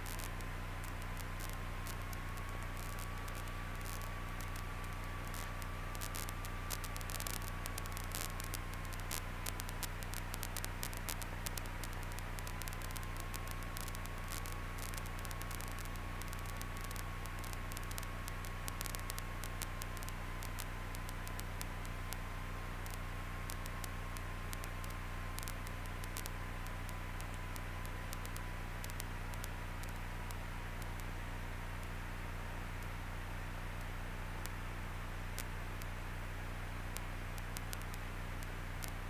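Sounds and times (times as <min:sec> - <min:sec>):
low steady hum: 0:00.0 - 0:39.0
static crackles: 0:00.0 - 0:39.0
steady hiss: 0:00.0 - 0:39.0.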